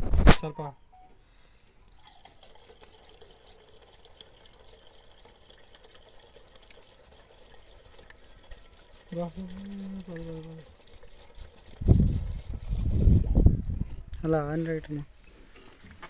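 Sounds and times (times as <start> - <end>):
fuel trickling into a tank: 1.2 - 15.9.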